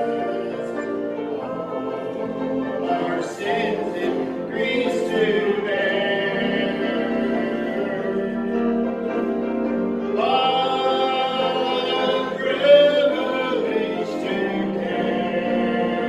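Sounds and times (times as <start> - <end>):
congregation singing a hymn: 0.0 - 16.0.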